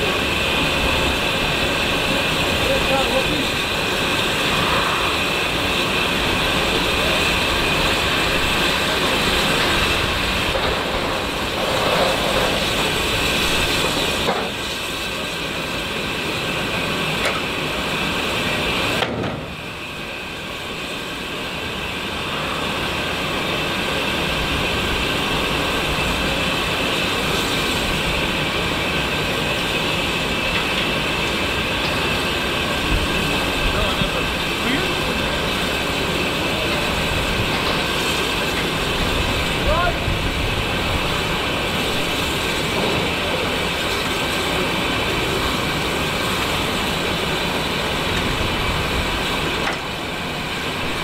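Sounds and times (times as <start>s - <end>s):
steam train rushing noise: 0.0s - 51.0s.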